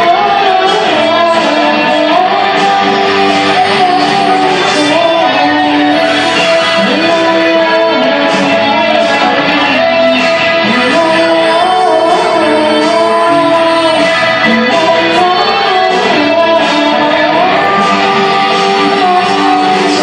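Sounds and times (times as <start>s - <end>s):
guitar: 0.0s - 20.0s
live band playing: 0.0s - 20.0s
person singing: 0.0s - 20.0s.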